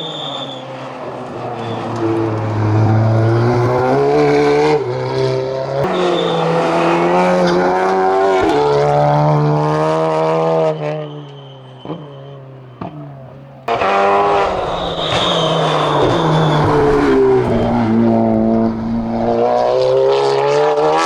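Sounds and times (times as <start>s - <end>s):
race car engine at full throttle: 0.0s - 21.0s.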